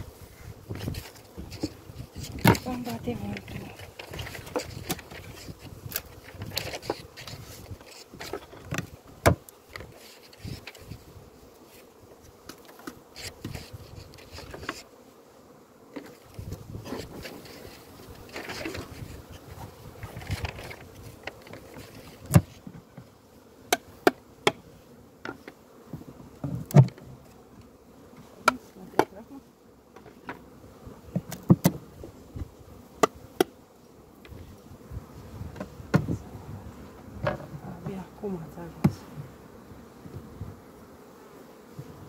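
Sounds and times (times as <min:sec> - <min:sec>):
bees buzzing: 0:00.0 - 0:42.0.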